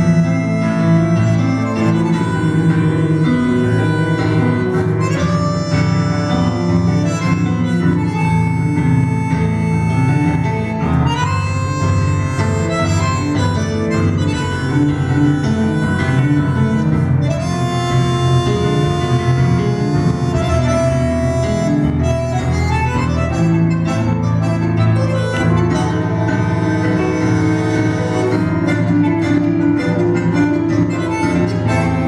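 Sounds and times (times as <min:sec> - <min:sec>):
instrumental music with pulsing bass: 0:00.0 - 0:32.0.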